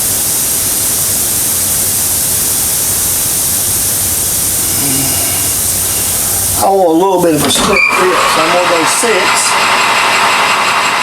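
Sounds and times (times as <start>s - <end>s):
loud steady hissing: 0.0s - 11.0s.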